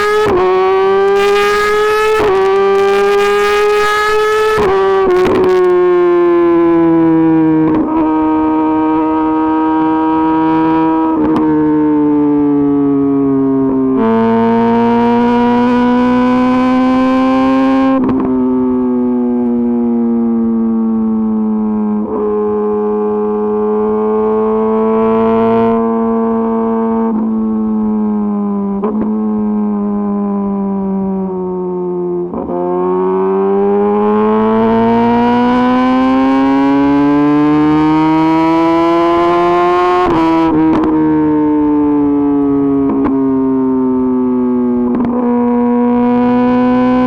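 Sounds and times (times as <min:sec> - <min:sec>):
motorcycle engine revving high: 0:00.0 - 0:47.0.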